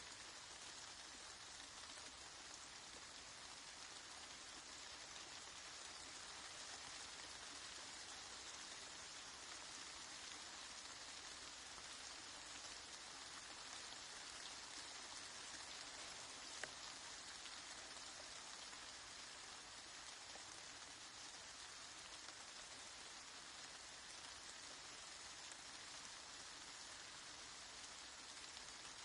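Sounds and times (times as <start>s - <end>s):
soft rain falling: 0.0s - 29.0s.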